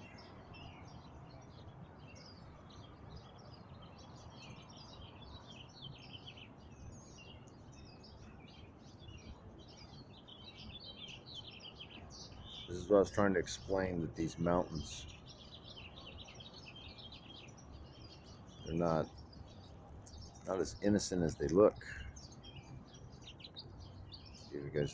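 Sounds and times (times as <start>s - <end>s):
birds chirping: 0.0s - 24.9s
low background noise: 0.0s - 24.9s.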